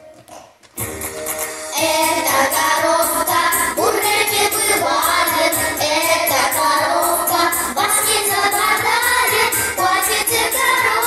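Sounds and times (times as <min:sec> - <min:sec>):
pop backing track with beat: 0:00.2 - 0:11.0
children singing: 0:01.8 - 0:11.0.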